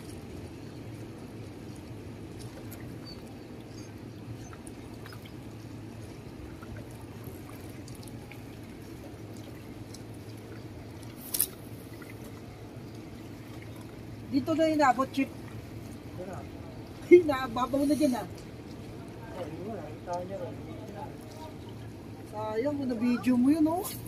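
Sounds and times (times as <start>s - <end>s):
low steady hum: 0.0s - 24.0s
small waves lapping on rocks: 0.0s - 24.0s.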